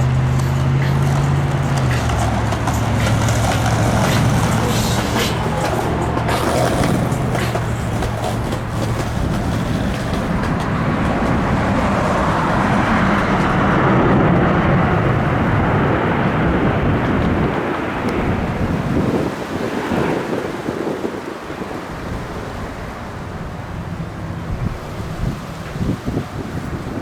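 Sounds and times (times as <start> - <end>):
jet engines rumbling: 0.0 - 25.6.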